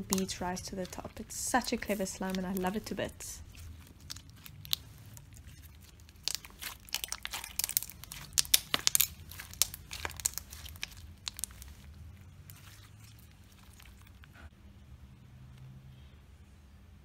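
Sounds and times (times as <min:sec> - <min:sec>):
bead slime clicking and crunching: 0:00.0 - 0:14.4.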